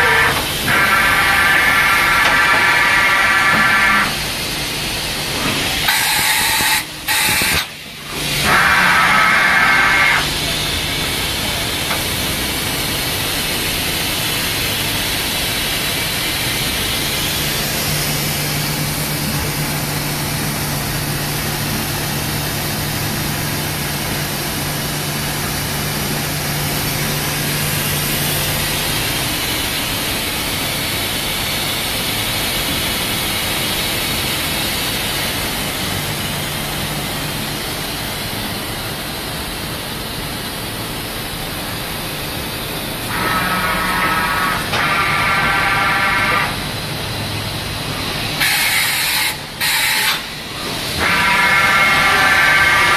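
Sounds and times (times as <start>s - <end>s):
machining center hiss: 0.0s - 52.9s.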